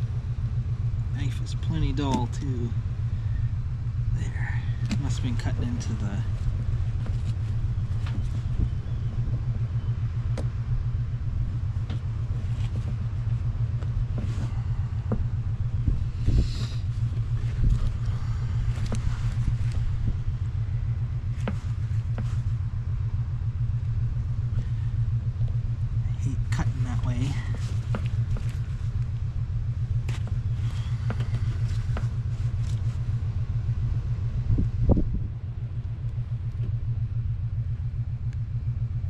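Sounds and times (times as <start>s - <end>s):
low engine drone: 0.0s - 39.0s.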